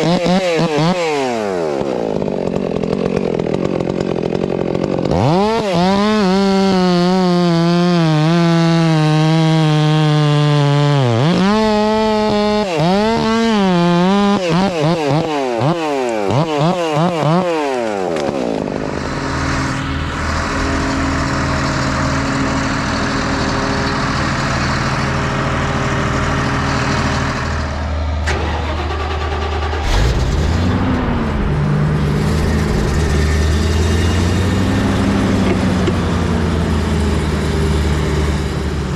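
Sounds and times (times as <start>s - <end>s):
chainsaw running: 0.0s - 38.9s
diesel machine droning: 0.8s - 16.5s, 17.8s - 38.9s.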